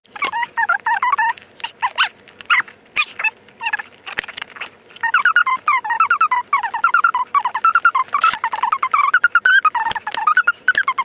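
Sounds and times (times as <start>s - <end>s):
high-pitched chirps and squeaks: 0.1s - 11.0s.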